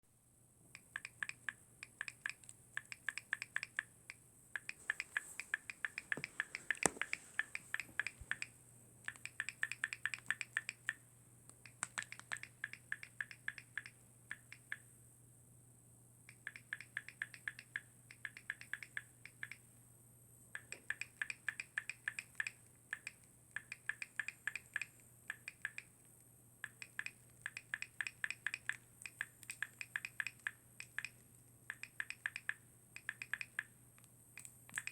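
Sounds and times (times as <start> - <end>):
rapid sharp clicks: 0.8 - 14.9, 16.3 - 19.6, 20.6 - 25.9, 26.6 - 34.9.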